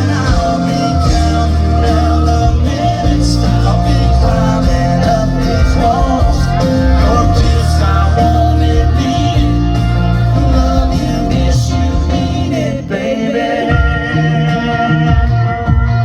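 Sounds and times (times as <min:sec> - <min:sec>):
live country band playing: 0:00.0 - 0:16.0.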